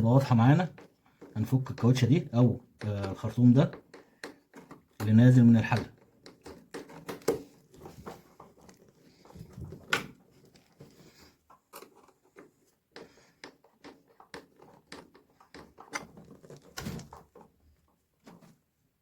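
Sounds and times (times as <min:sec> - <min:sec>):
rubber scraping on plastic: 0:00.0 - 0:18.7.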